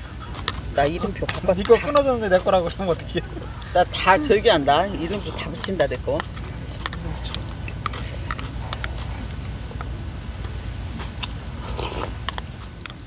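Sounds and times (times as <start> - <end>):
chewing: 0.0 - 13.0
chopsticks clicking against bowl: 0.3 - 3.2, 4.8 - 9.2, 9.8 - 13.0.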